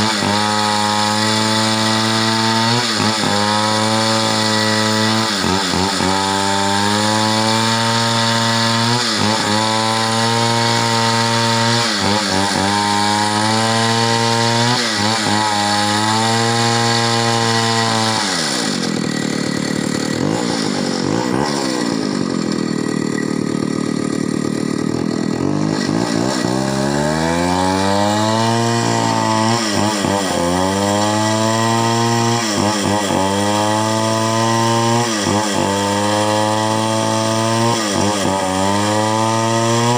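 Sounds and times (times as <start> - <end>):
chainsaw cutting at high revs: 0.0 - 39.9.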